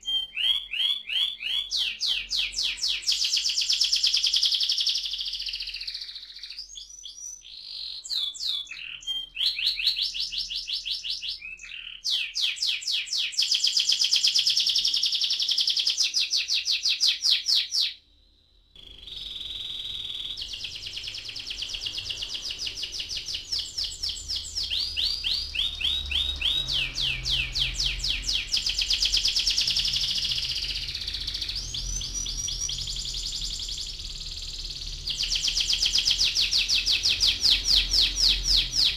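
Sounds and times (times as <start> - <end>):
canary singing trills: 0.0 - 18.0, 18.8 - 38.9.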